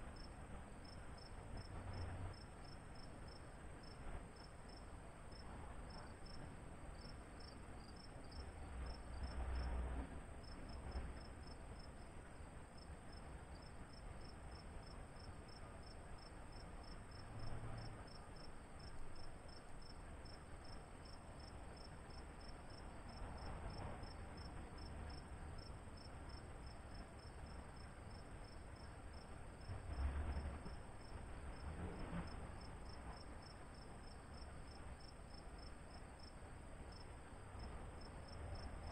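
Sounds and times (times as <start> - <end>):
faint high insect drone: 0.0 - 38.9
cricket chirping: 0.2 - 9.8, 12.8 - 38.9.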